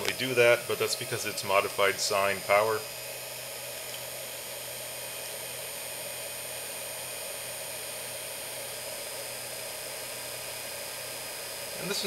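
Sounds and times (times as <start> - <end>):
electric heater buzzing: 0.0 - 12.0
fan rushing: 0.0 - 12.0.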